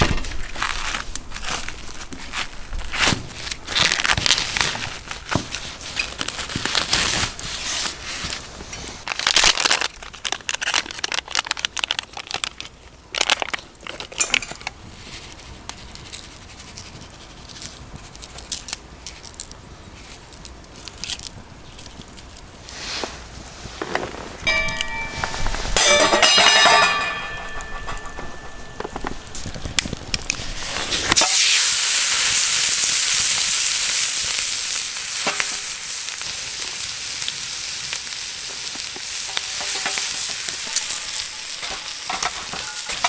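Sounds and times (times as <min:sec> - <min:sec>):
crackling and crinkling: 0:00.0 - 0:31.7, 0:32.3 - 0:43.0.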